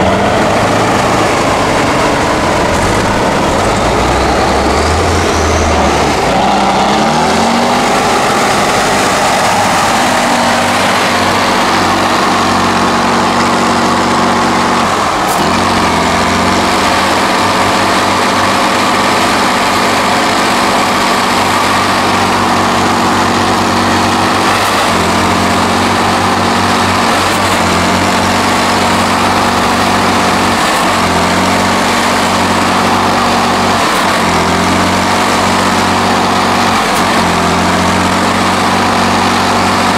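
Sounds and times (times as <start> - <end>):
diesel truck engine straining: 0.0 - 39.9.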